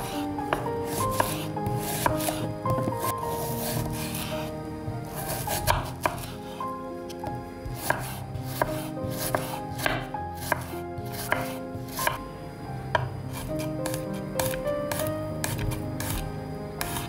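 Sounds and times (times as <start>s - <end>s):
knife slicing onion on wooden board: 0.0s - 4.5s, 5.1s - 12.2s, 13.0s - 17.0s.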